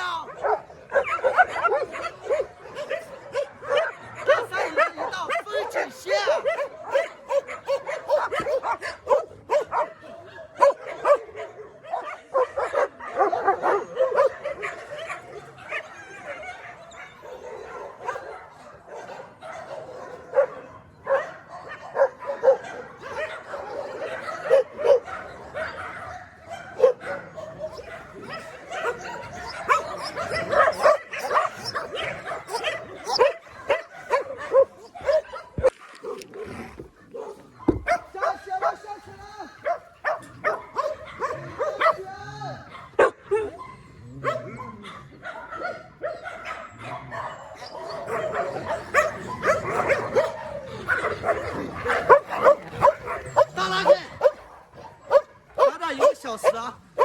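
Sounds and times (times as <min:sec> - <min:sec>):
dogs barking and yipping: 0:00.0 - 0:57.0.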